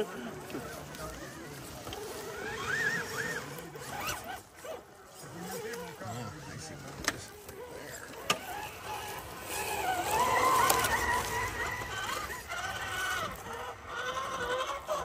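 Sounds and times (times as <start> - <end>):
electric motor and gearing whining: 0.0 - 15.0.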